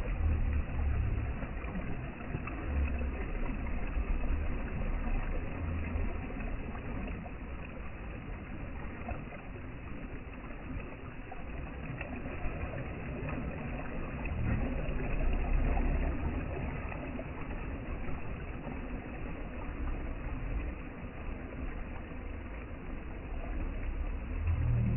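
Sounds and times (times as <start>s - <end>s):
ocean waves: 0.0s - 24.9s.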